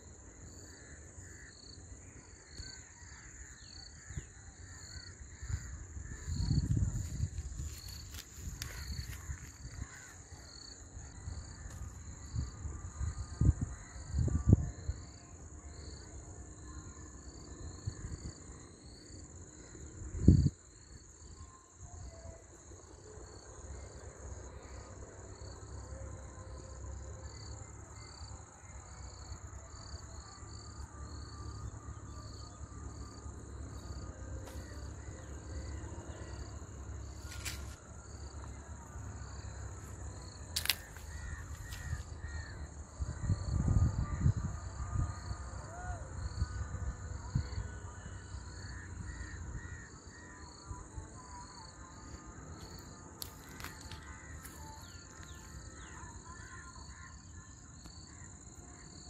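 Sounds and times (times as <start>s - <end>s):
high insect drone: 0.0s - 59.0s
pulsing insect chirp: 0.0s - 59.0s.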